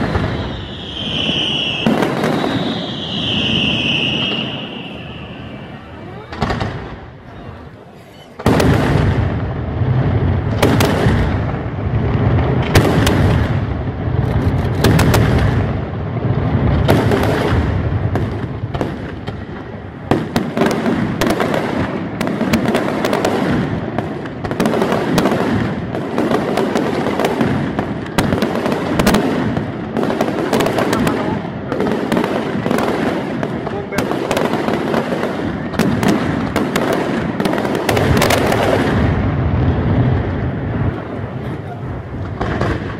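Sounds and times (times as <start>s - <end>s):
fireworks bursts and crackling: 0.0s - 42.9s.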